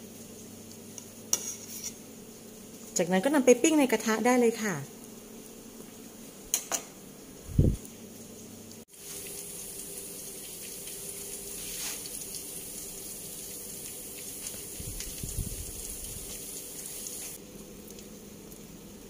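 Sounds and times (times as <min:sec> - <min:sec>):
patties sizzling in oil: 0:00.0 - 0:19.0.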